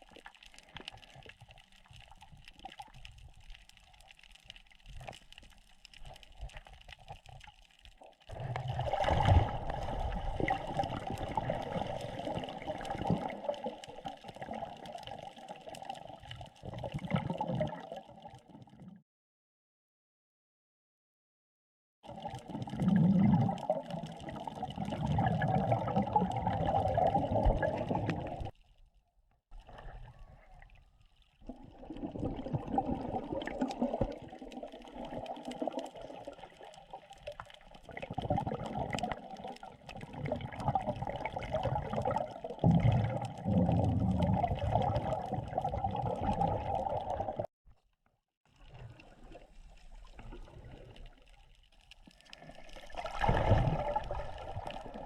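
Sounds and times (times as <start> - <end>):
water sloshing and bubbling: 0.0 - 19.0, 22.0 - 55.0.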